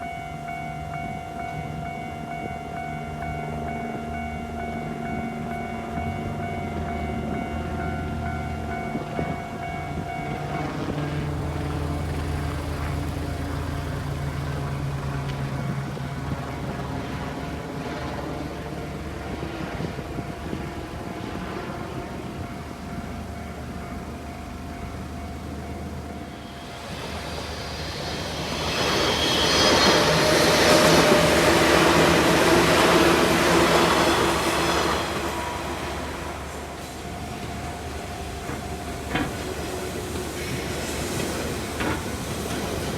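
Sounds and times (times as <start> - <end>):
level crossing warning bell: 0.0 - 42.9
train wheel and motor noise: 0.0 - 42.9.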